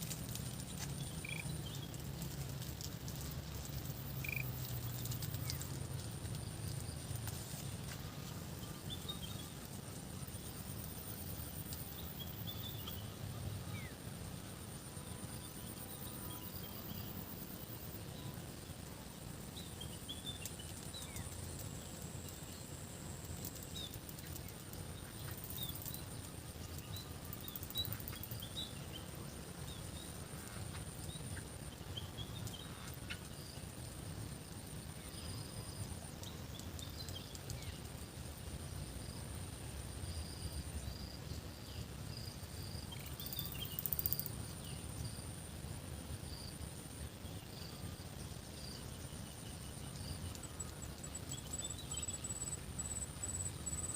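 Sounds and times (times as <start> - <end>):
steady high-pitched hiss: 0.0 - 53.9.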